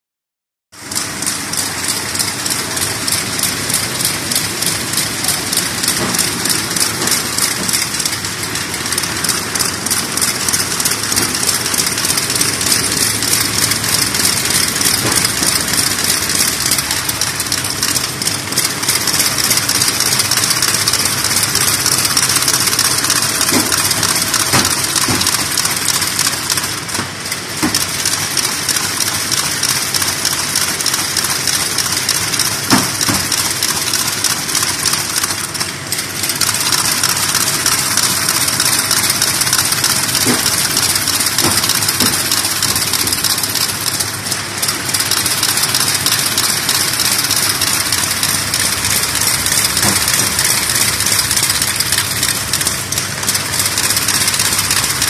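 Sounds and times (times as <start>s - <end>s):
folding machine running: 0.8s - 55.0s
fast even clicking: 0.9s - 27.0s, 27.6s - 55.0s.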